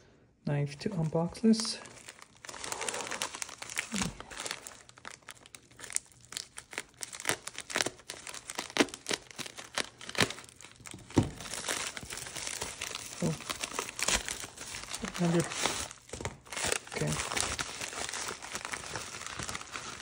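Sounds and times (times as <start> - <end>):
paper envelope crinkling: 0.8 - 20.0.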